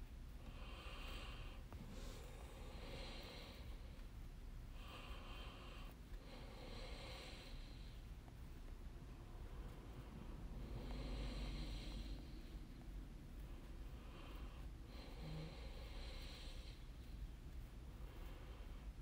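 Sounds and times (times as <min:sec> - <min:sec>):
person breathing slowly: 0:00.3 - 0:08.4, 0:09.2 - 0:19.0.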